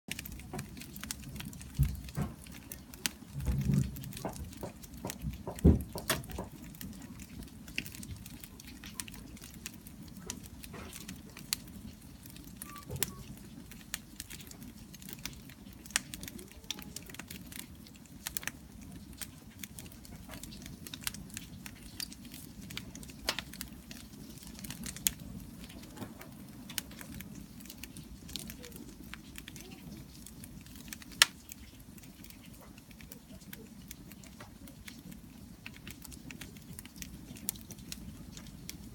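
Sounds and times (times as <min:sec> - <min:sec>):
bonfire crackling and popping: 0:00.1 - 0:38.9.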